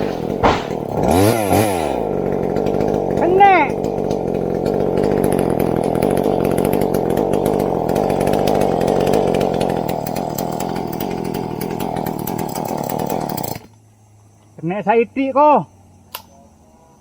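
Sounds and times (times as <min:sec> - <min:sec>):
chainsaw running: 0:00.0 - 0:13.8.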